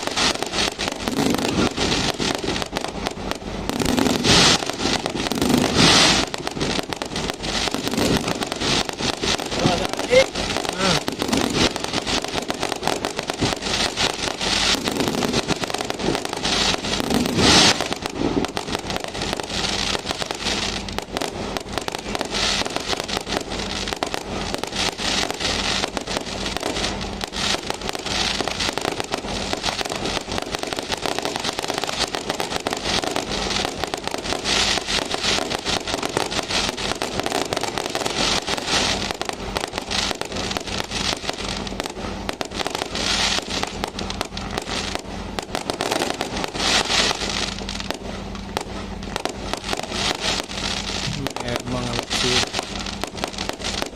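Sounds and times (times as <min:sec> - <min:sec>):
fireworks crackling and banging: 0:00.0 - 0:53.9
loud firework blast: 0:00.0 - 0:53.9.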